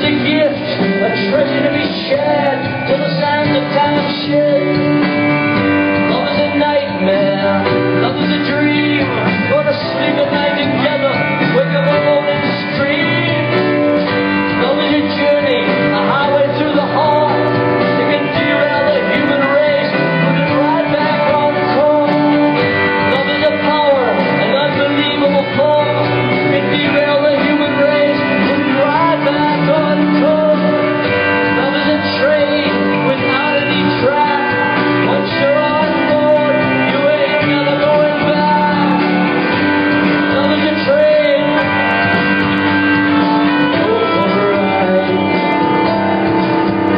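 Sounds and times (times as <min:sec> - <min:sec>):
live rock band playing: 0:00.0 - 0:46.9
man singing lead: 0:00.0 - 0:46.9.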